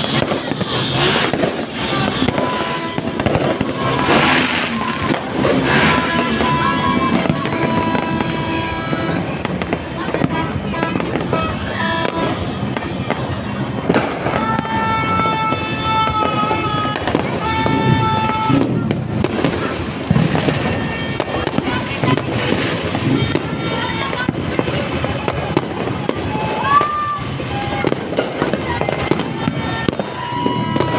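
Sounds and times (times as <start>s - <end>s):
fireworks bursting and crackling: 0.0s - 30.9s.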